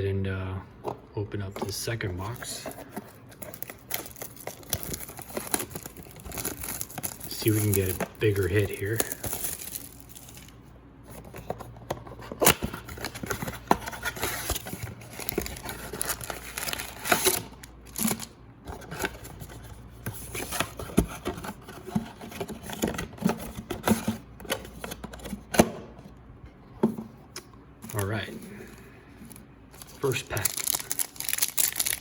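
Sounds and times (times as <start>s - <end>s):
packaging crinkling and tearing: 2.2s - 10.6s, 12.3s - 25.4s, 27.8s - 32.0s.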